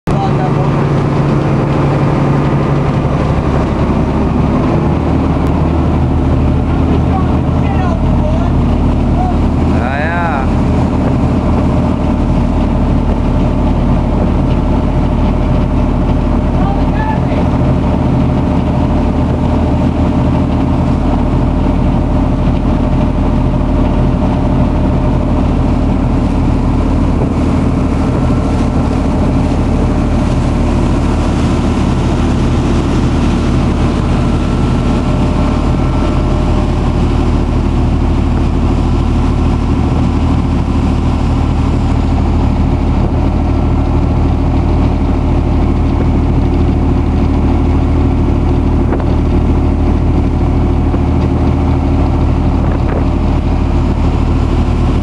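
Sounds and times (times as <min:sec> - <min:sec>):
boat engine running: 0:00.0 - 0:55.0
water rushing in wake: 0:00.0 - 0:55.0.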